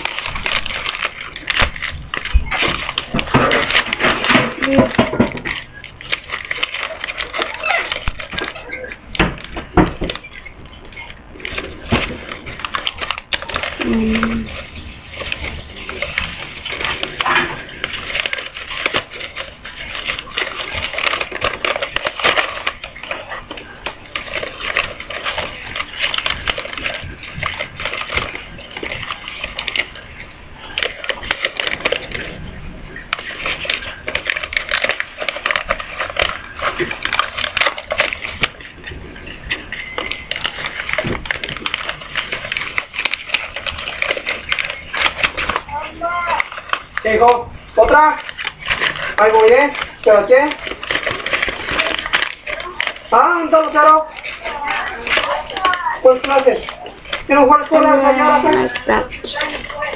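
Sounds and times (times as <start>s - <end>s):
paper rustling and crinkling: 0.0s - 59.9s.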